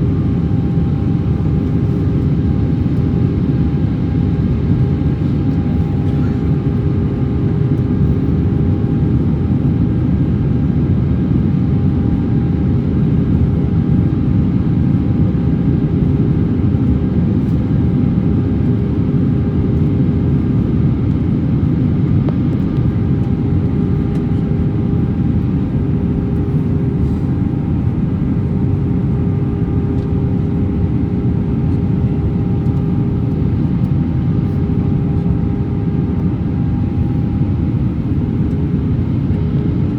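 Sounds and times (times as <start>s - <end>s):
airflow and engine noise: 0.0s - 39.9s.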